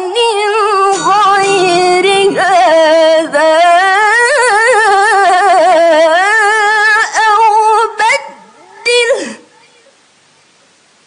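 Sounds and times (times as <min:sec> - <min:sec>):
woman reciting melodically: 0:00.0 - 0:10.1.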